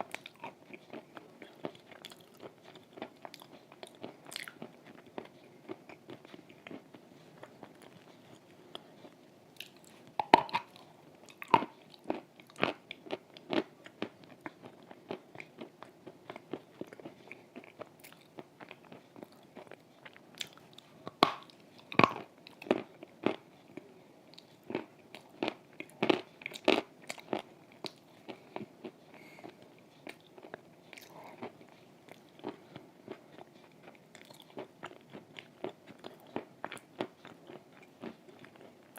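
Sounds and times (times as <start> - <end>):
crunching and chewing chalk: 0.0 - 38.9.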